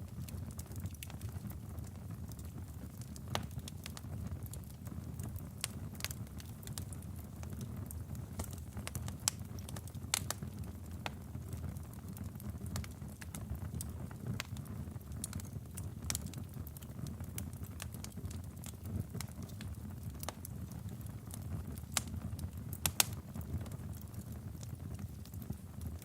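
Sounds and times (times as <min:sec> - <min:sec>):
fire rumbling: 0:00.0 - 0:26.0
logs crackling and popping: 0:00.0 - 0:26.0.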